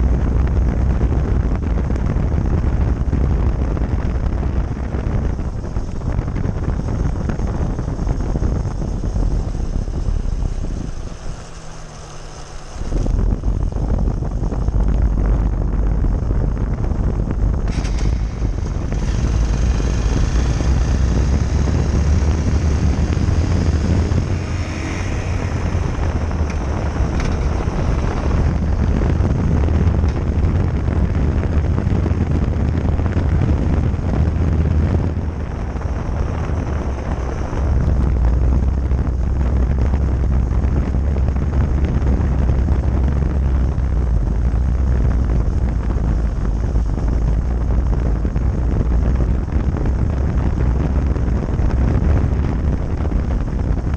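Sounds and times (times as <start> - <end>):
motorcycle engine rumble: 0.0 - 53.9
tyre noise on asphalt: 0.0 - 53.9
wind buffeting camera: 0.0 - 53.9.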